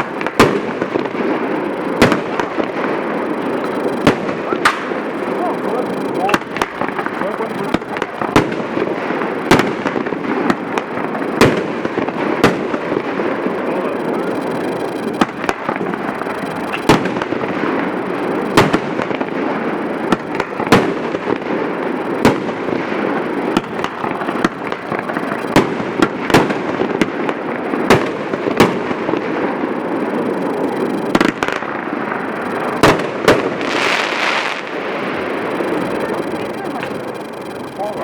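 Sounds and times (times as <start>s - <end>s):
fireworks crackling: 0.0s - 38.0s
fireworks reports: 0.0s - 38.0s.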